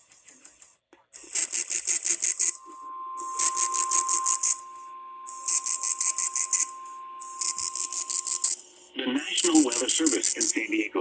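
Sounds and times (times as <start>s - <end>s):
rattling data pulses: 0.0s - 11.0s
steady alert tone: 1.2s - 10.9s.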